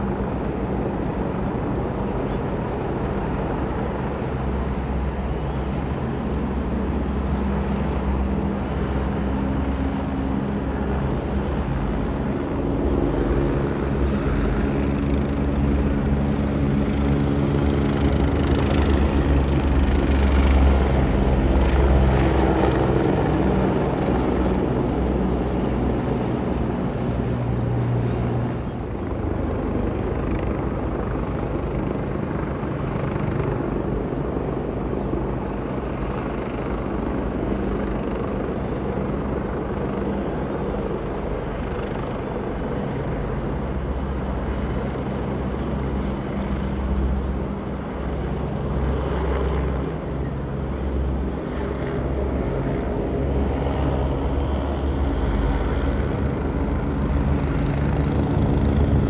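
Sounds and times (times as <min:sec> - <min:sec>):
helicopter rotor beat and engine drone: 0:00.0 - 0:59.0.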